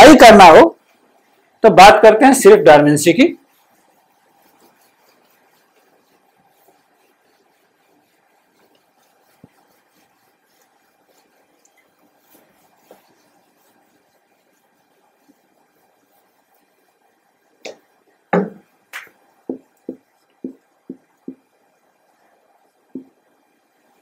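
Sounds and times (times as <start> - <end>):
duster wiping a whiteboard: 0.0 - 24.0.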